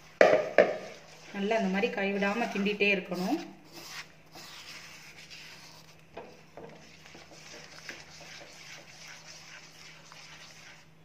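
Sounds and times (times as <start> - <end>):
spatula scraping a pan: 0.8 - 5.9, 6.8 - 11.0.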